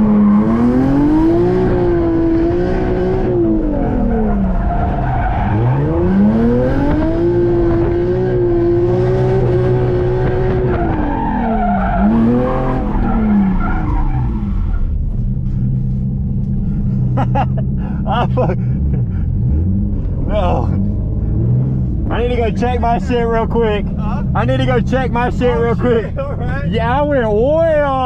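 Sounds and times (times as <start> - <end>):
car engine revving: 0.0 - 28.0
tyres skidding: 0.0 - 28.0.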